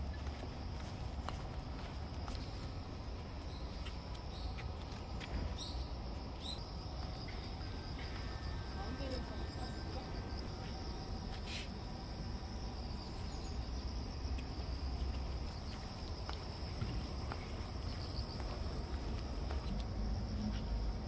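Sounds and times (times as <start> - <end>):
insects trilling: 2.1 - 21.0.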